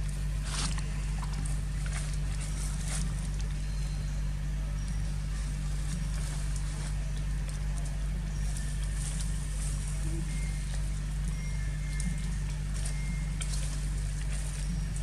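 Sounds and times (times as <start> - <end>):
faint rustles and clicks: 0.0 - 15.0
low hum: 0.0 - 15.0.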